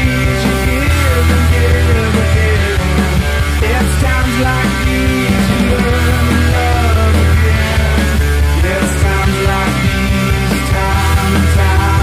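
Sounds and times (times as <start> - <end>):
rock music with strong bass: 0.0 - 12.0.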